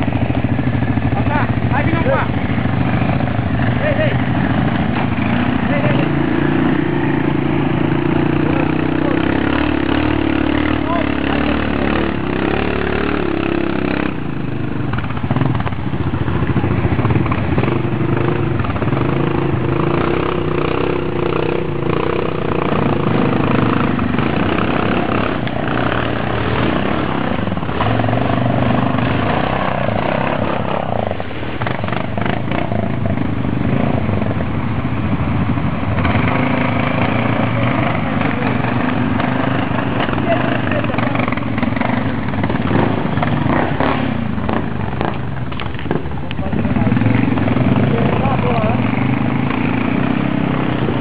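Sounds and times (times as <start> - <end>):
quad bike engines revving: 0.0 - 51.0.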